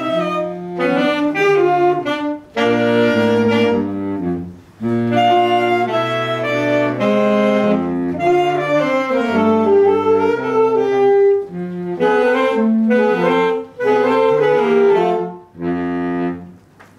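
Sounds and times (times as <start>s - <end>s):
saxophone quartet playing jazz: 0.0s - 16.8s.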